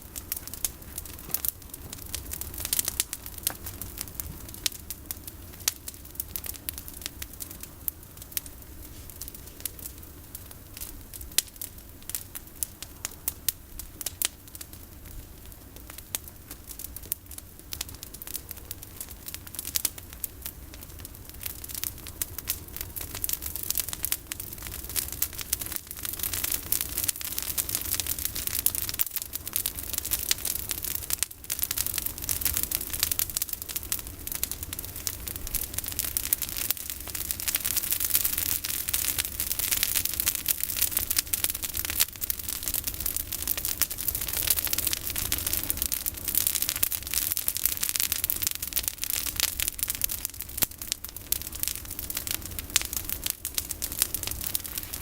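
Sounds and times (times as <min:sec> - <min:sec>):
bonfire crackling and popping: 0:00.0 - 0:55.0
low fire rumble: 0:00.0 - 0:55.0.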